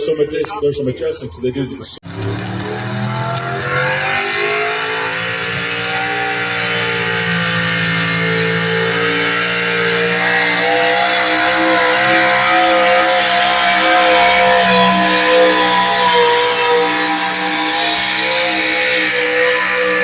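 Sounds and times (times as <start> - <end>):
engine revving hard under load: 2.0 - 20.0.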